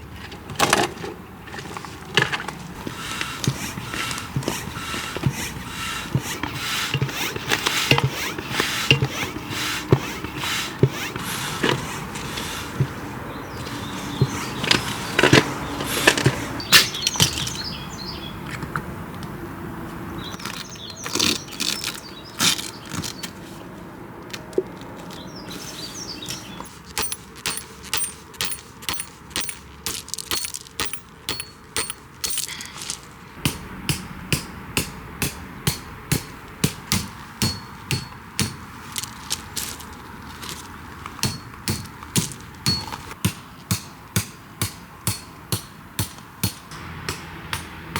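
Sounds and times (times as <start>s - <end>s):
hammering metal tent pegs: 0.6s - 17.8s, 25.2s - 47.9s.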